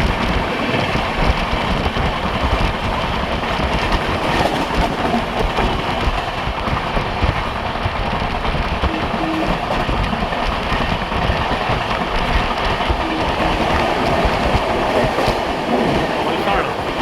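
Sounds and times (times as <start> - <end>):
express train running at speed: 0.0 - 17.0.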